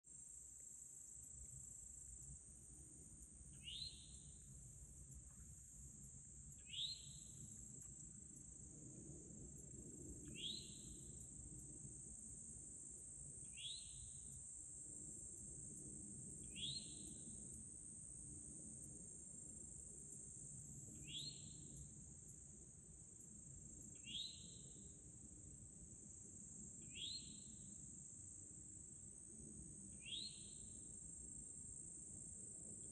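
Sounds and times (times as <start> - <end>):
insects droning: 0.2 - 32.9.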